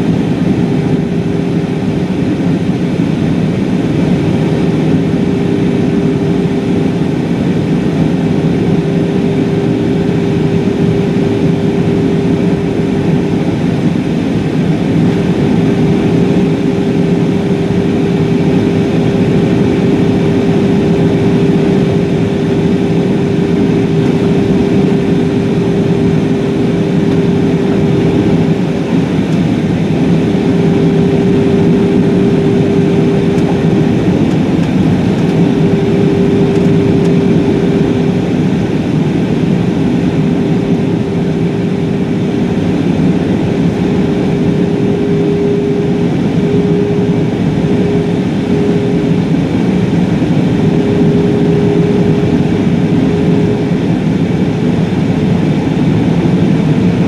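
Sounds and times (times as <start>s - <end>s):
airflow rushing in cabin: 0.0s - 57.0s
jet engines humming: 0.0s - 57.0s
constant tone: 3.0s - 57.0s.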